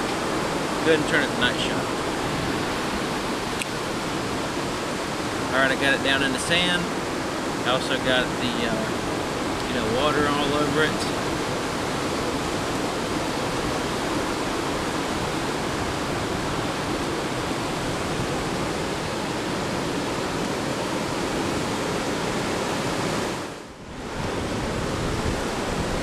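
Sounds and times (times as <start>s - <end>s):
ocean surf washing over sand: 0.0s - 26.0s.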